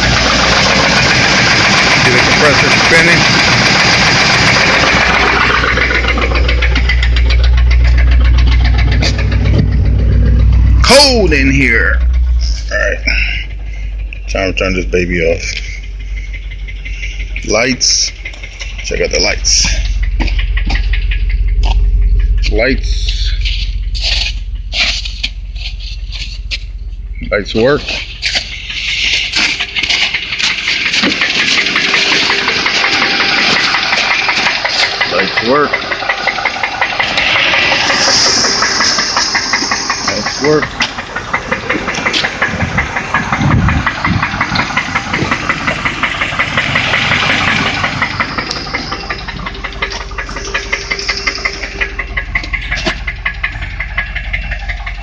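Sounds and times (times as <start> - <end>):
car engine idling with ticking: 0.0 - 55.0.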